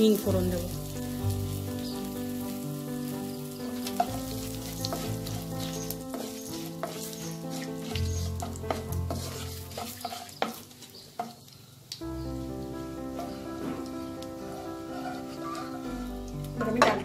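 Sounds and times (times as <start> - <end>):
wooden spatula stirring in pan: 0.0 - 11.7, 13.0 - 17.0
spices sizzling in hot oil: 0.0 - 17.0.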